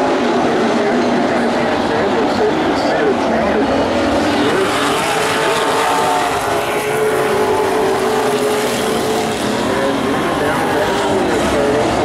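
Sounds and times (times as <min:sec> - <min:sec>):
racing car engines droning: 0:00.0 - 0:12.0.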